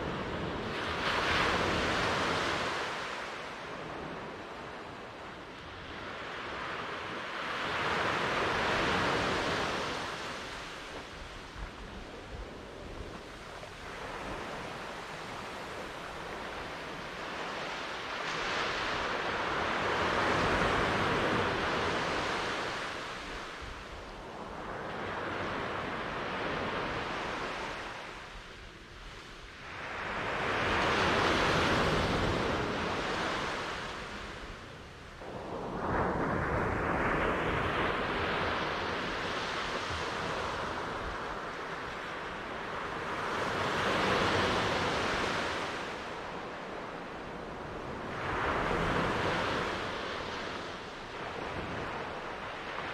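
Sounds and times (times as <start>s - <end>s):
waves breaking on shore: 0.0s - 52.9s.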